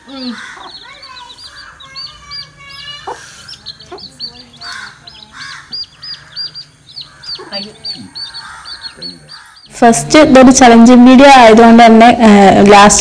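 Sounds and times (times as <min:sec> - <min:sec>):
faint voices: 0:00.0 - 0:06.6, 0:07.2 - 0:12.4
small bird chirping: 0:00.0 - 0:10.8.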